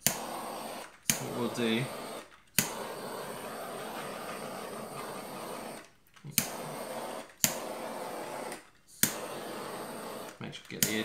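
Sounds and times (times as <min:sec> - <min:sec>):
blowtorch flame hissing: 0:00.0 - 0:11.0
blowtorch ignition click: 0:00.0 - 0:11.0.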